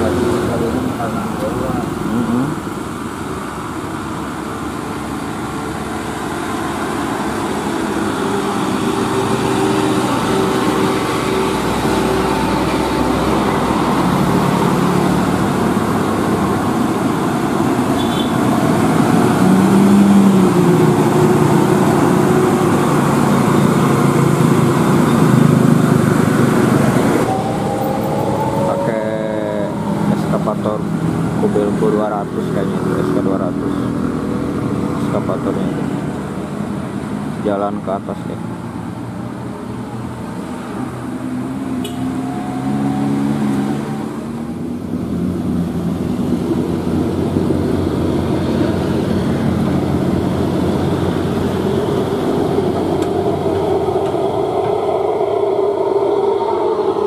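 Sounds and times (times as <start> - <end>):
road traffic noise: 0.0 - 57.0
truck diesel engine passing: 0.0 - 57.0.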